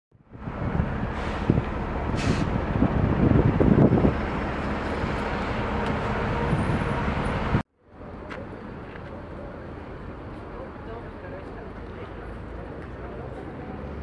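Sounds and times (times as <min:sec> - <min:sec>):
quiet street background: 0:00.1 - 0:14.0
buses and traffic driving past: 0:00.2 - 0:14.0.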